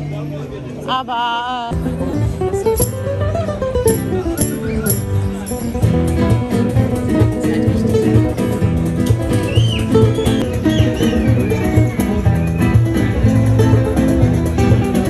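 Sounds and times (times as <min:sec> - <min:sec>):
acoustic guitar playing: 0:00.9 - 0:15.0.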